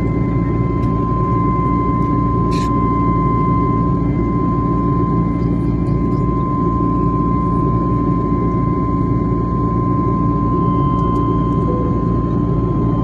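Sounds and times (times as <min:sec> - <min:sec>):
jet engine cabin rumble: 0:00.0 - 0:13.0
thin steady whine: 0:00.0 - 0:13.0.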